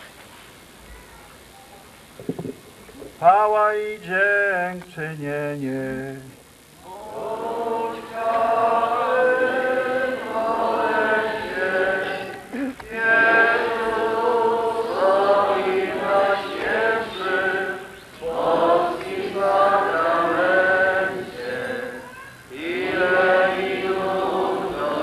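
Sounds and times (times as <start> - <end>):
congregation singing a hymn: 4.0 - 25.0.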